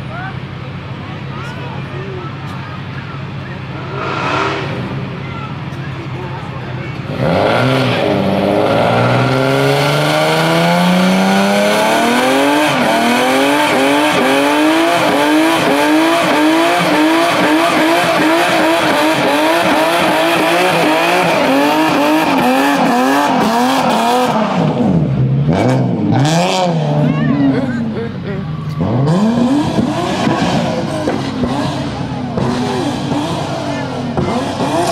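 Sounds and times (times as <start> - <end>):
car engine revving: 3.3 - 27.1, 28.0 - 34.9.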